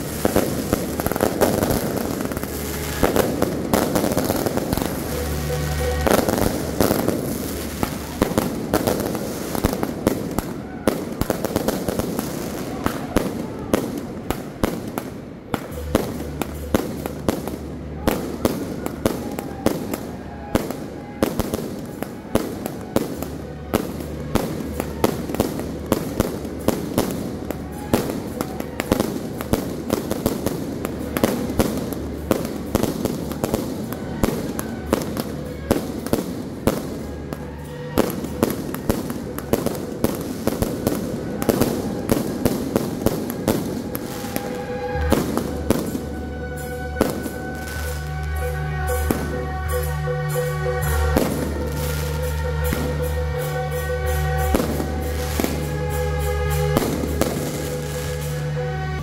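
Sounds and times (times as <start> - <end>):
fireworks crackling and popping: 0.0 - 59.0
music with held notes: 0.0 - 59.0.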